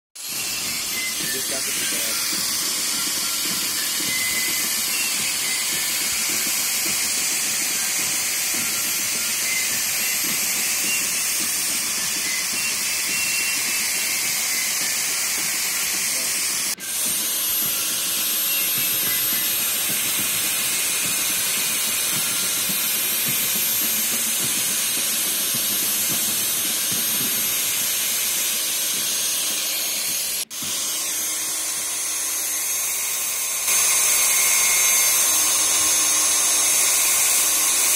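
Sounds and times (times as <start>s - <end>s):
angle grinder grinding metal: 0.2s - 37.9s.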